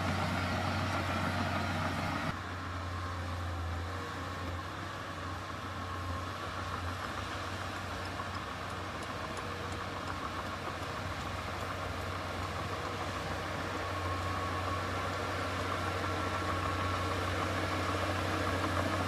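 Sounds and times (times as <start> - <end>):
heavy machinery diesel engine running: 0.0 - 2.7, 5.4 - 19.0.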